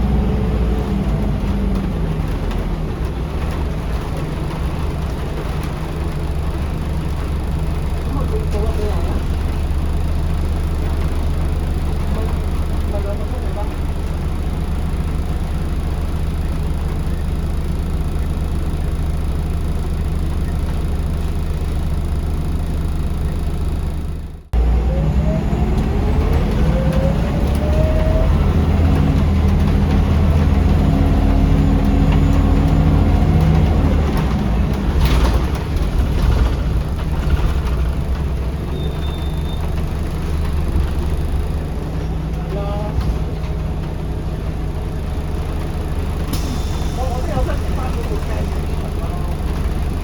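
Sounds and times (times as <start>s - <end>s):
bus diesel engine running: 0.0s - 50.0s
road noise: 0.0s - 50.0s
rising engine whine: 5.8s - 50.0s.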